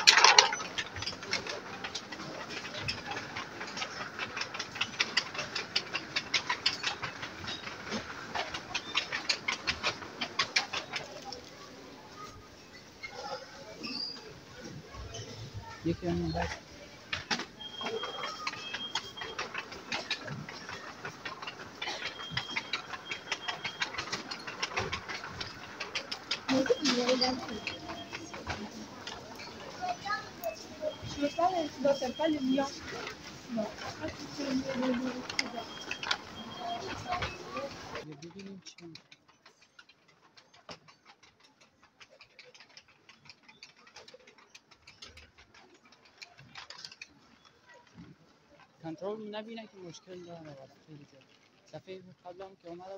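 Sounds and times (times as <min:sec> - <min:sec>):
light clicks and rattles: 0:00.0 - 0:52.9.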